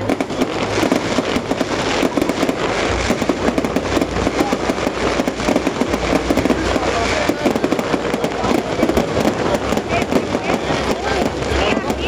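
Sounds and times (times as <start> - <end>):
fireworks crackling pops: 0.0 - 12.0
fireworks deep booms: 0.0 - 12.0.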